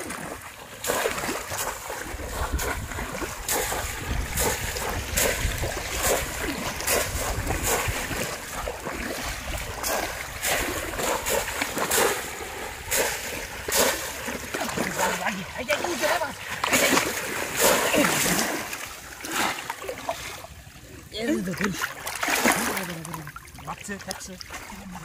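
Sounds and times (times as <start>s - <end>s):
water splashing: 0.0s - 25.0s.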